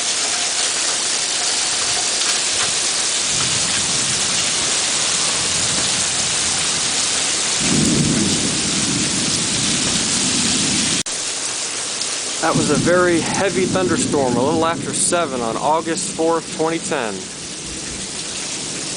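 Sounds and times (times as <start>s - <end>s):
heavy rain pouring: 0.0s - 18.9s
thunder rumbling: 1.8s - 11.0s, 12.4s - 18.9s.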